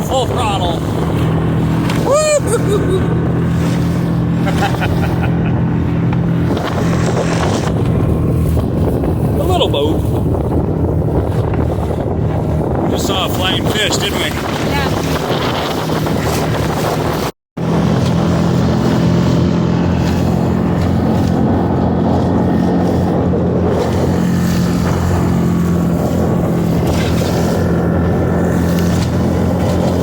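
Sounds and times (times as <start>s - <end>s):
outboard motor running: 0.0s - 30.0s
wind and water noise: 0.0s - 30.0s.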